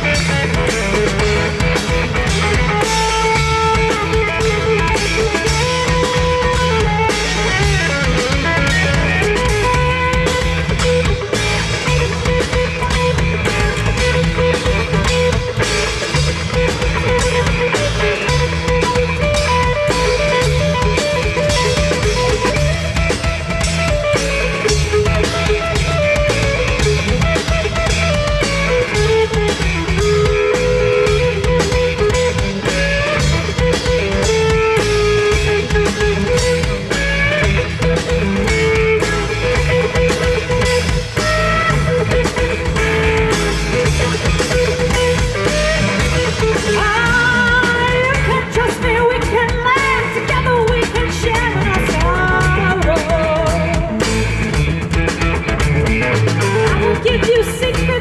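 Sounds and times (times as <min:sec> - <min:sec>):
bending lead guitar melody: 0:00.0 - 0:58.0
drum kit beat: 0:00.0 - 0:58.0
electric guitars: 0:00.0 - 0:58.0.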